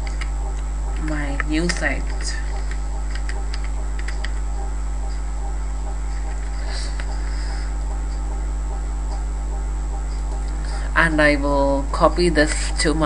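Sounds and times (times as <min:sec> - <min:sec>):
low electrical mains hum: 0:00.0 - 0:13.0.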